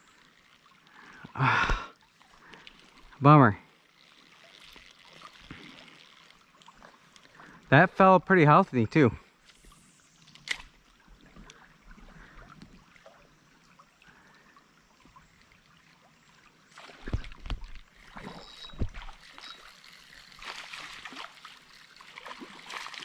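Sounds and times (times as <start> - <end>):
river water trickling: 0.0 - 23.0.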